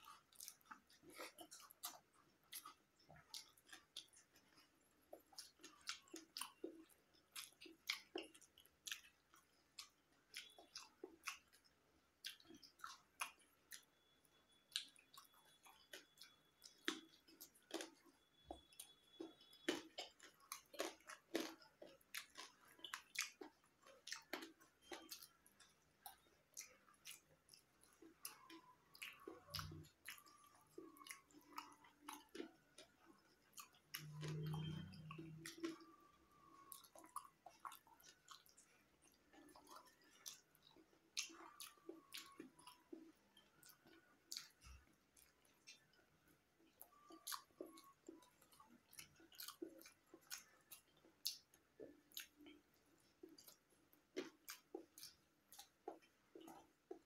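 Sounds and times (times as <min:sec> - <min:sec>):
wet chewing smacks and clicks: 0:00.0 - 0:57.0.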